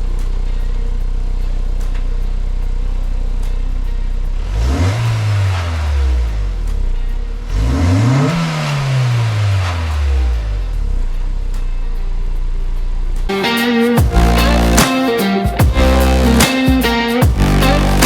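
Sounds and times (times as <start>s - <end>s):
car engine idling and revving: 0.0s - 13.3s, 14.0s - 14.9s, 15.6s - 18.0s.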